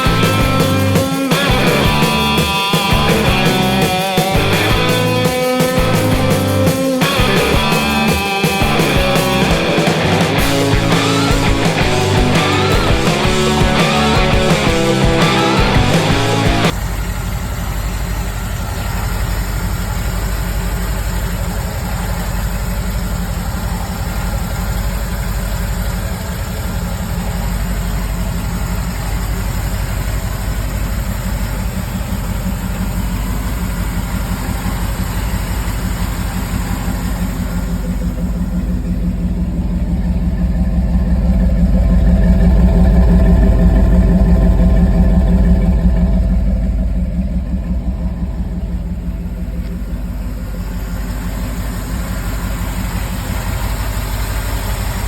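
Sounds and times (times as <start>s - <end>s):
engine pulsing low rumble: 0.0s - 55.0s.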